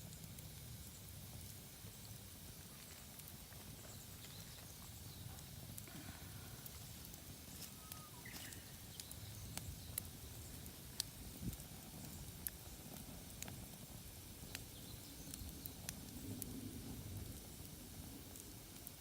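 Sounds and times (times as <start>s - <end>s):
campfire rumble: 0.0s - 19.0s
fire crackles and pops: 0.0s - 19.0s.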